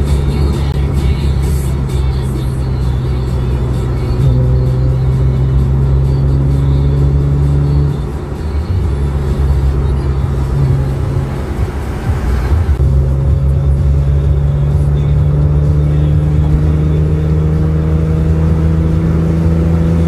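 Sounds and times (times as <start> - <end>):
car engine droning: 0.0 - 20.0
tyre and road noise: 0.0 - 20.0.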